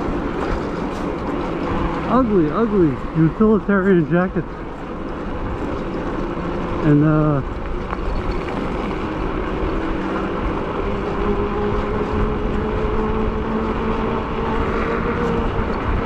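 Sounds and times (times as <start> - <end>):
low electric motor hum: 0.0 - 16.0
wind and road noise: 0.0 - 16.0.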